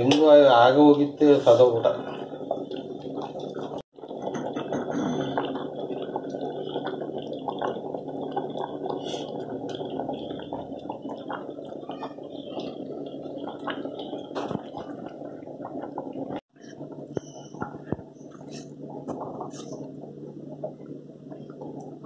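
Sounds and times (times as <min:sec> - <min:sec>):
curry bubbles popping: 0:01.6 - 0:22.0.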